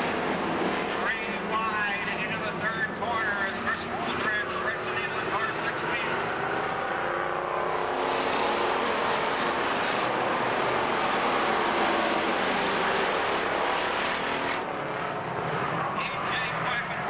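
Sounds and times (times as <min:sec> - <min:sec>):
race car engines racing past: 0:00.0 - 0:17.0.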